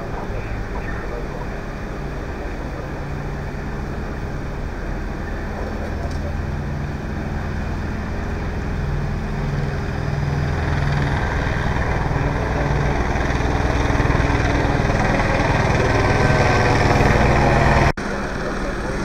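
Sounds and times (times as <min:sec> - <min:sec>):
large vehicle engine rumbling: 0:00.0 - 0:19.0.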